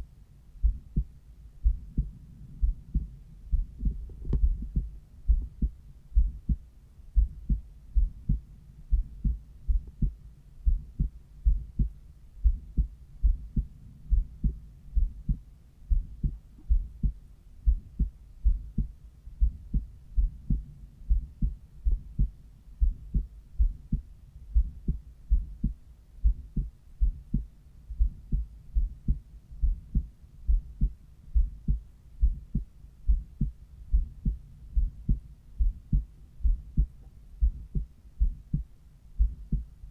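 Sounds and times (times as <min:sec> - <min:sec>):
heartbeat through stethoscope: 0:00.6 - 0:39.9.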